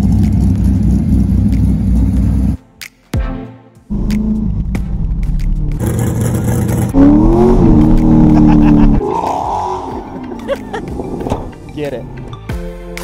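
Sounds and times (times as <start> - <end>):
car engine revving: 0.0 - 2.6, 3.9 - 12.2.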